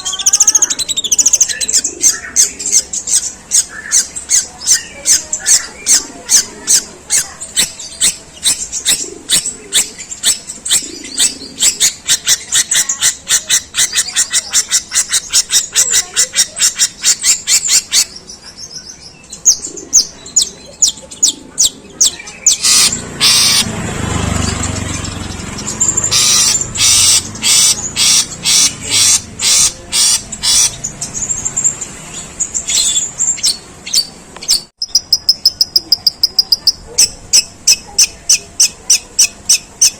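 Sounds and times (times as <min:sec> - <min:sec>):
bird singing harsh chirps: 0:00.0 - 0:39.9.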